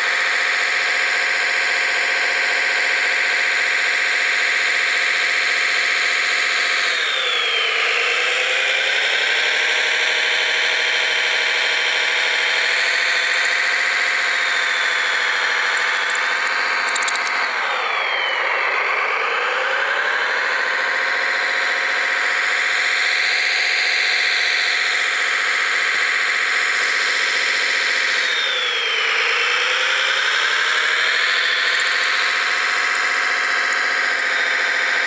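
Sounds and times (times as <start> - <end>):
toy dozer motors whining: 0.0 - 35.0.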